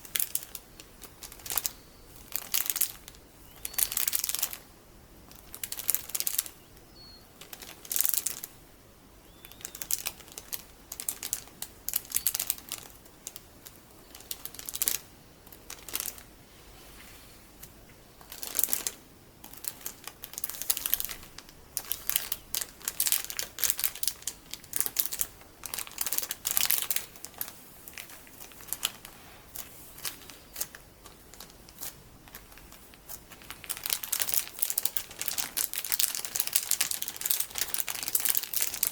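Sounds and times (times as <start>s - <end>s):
beads crinkling and crackling: 0.0s - 8.6s, 9.3s - 16.4s, 17.6s - 38.9s.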